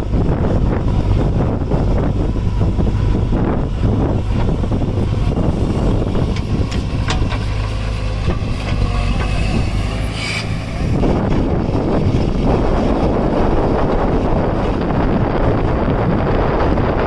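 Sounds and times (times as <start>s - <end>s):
diesel tractor engine running: 0.0s - 17.0s
engine knocks: 0.8s - 15.9s.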